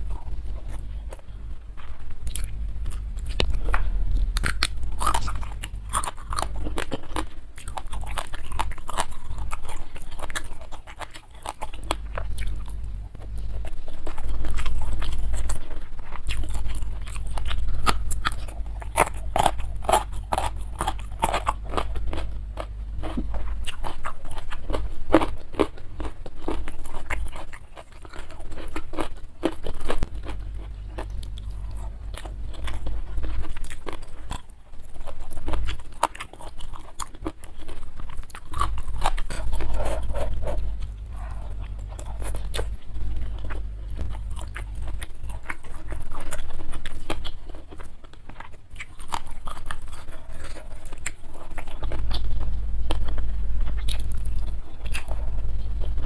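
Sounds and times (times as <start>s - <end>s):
crunching raw vegetables: 0.0s - 56.0s.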